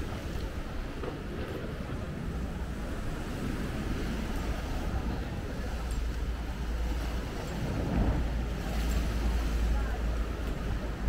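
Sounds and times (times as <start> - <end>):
sea waves washing: 0.0 - 11.0
wind rumbling on microphone: 0.0 - 11.0.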